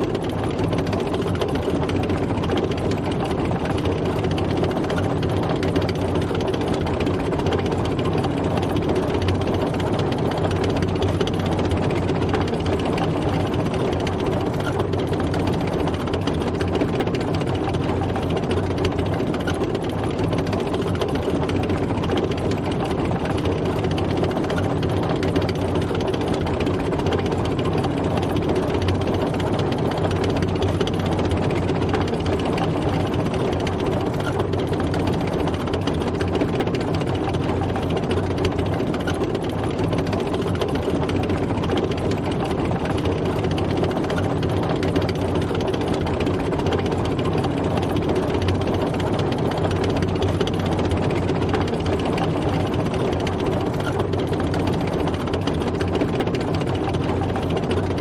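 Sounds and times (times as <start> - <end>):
tank engine running with clatter: 0.0 - 58.0.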